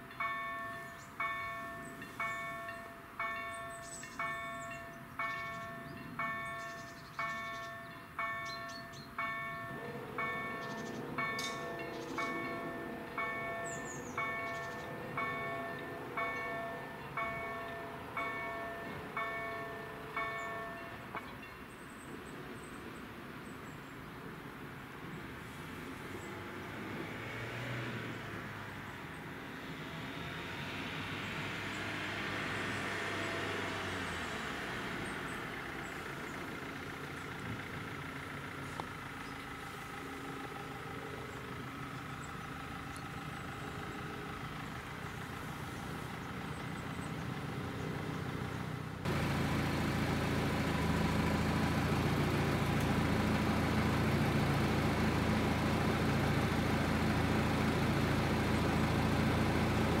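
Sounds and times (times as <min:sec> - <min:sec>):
vehicle engines idling: 0:00.0 - 1:00.0.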